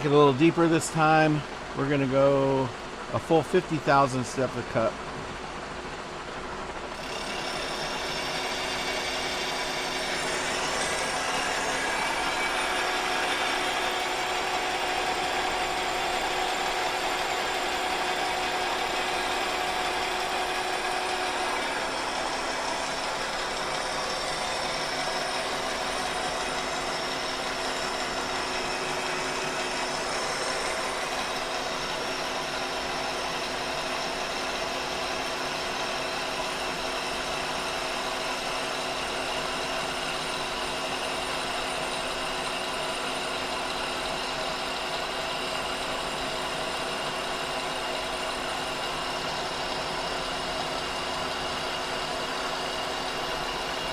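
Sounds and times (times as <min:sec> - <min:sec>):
milling machine cutting metal: 0:06.9 - 0:53.9.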